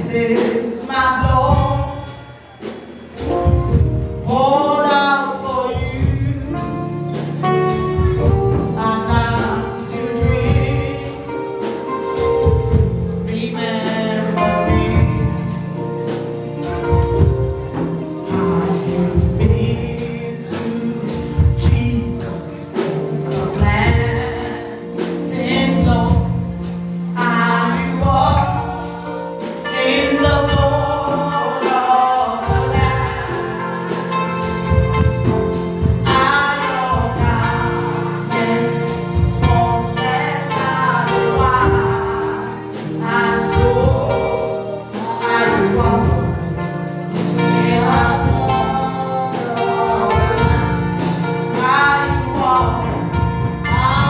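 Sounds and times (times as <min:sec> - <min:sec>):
gospel singing with instrumental backing: 0:00.0 - 0:54.0.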